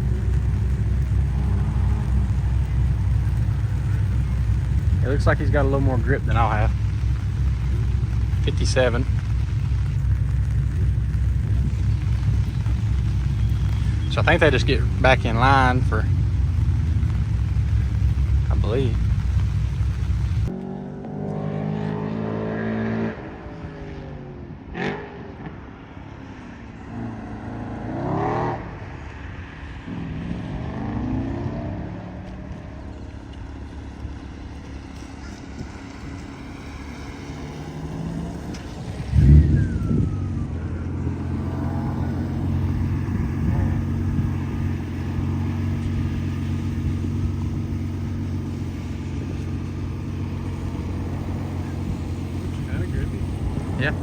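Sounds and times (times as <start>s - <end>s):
nearby engine running steadily: 0.0s - 54.0s
race car engines revving past: 0.0s - 54.0s.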